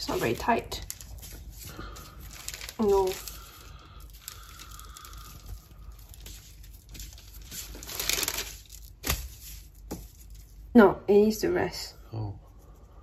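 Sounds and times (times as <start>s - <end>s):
parchment paper crinkling: 0.0s - 10.7s.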